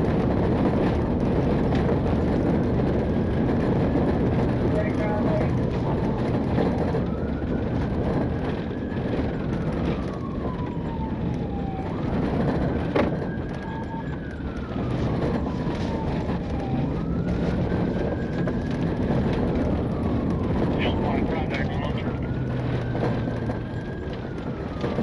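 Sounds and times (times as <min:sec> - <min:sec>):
police siren wailing: 0:00.0 - 0:25.0
vehicle driving: 0:00.0 - 0:25.0.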